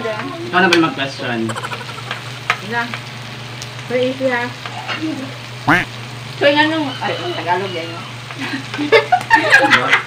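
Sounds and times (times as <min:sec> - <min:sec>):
food sizzling on a grill pan: 0:00.0 - 0:10.0.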